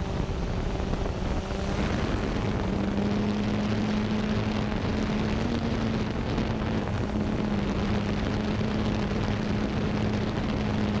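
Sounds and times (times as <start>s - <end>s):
drone motors humming: 0.0s - 11.0s
wind noise: 0.0s - 11.0s.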